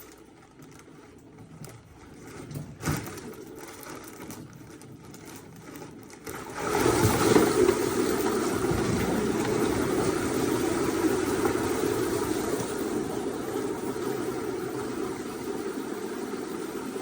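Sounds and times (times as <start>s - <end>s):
sewage water gushing into bag: 0.0s - 17.0s.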